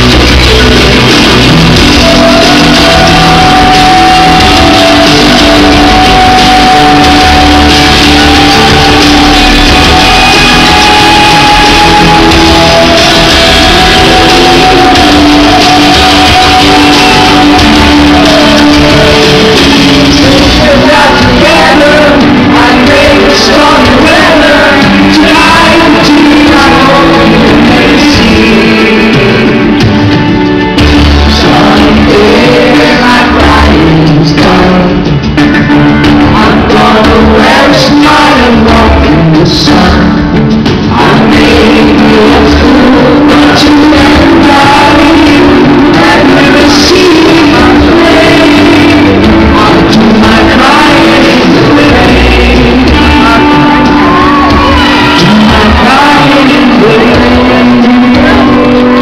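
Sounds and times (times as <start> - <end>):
electric guitar: 0.0 - 59.0
man singing: 0.0 - 59.0
pop-rock band playing live: 0.0 - 59.0.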